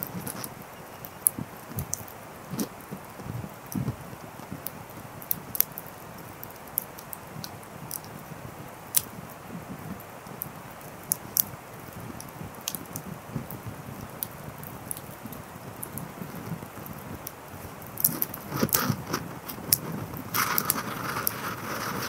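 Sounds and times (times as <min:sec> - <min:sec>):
logs crackling and popping: 0:00.0 - 0:22.0
hiss of flame: 0:01.3 - 0:22.0.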